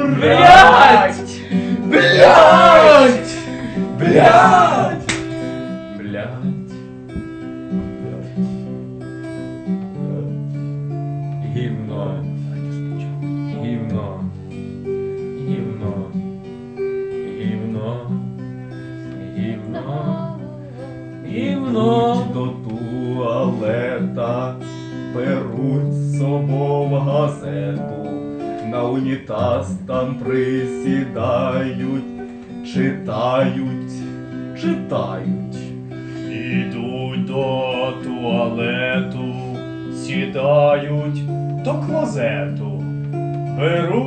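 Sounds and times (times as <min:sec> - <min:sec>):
man singing: 0:00.0 - 0:06.6, 0:11.4 - 0:14.4, 0:15.2 - 0:16.2, 0:17.1 - 0:20.5, 0:21.1 - 0:44.0
acoustic guitar strumming: 0:00.0 - 0:44.0.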